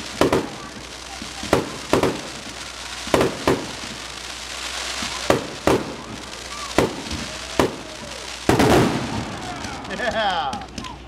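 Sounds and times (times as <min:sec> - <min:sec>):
fireworks booming: 0:00.0 - 0:11.0
fireworks crackling: 0:00.0 - 0:11.0.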